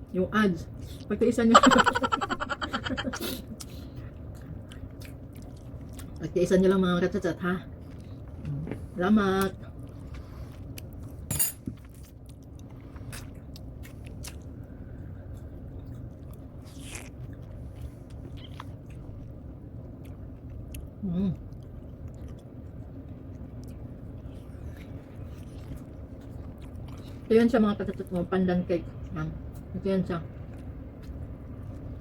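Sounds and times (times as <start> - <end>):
low room hum: 0.0 - 32.0
person chewing cake: 2.8 - 28.3, 30.3 - 32.0.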